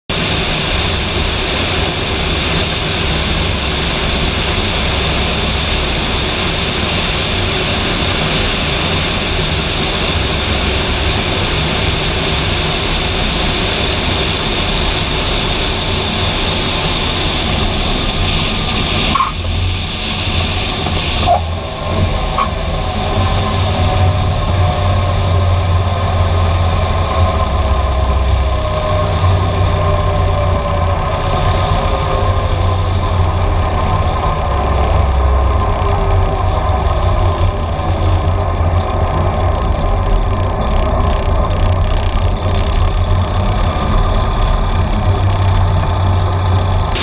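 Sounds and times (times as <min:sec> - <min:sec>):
propeller airplane engine: 0:00.0 - 0:47.0
wind rushing over microphone: 0:00.1 - 0:47.0.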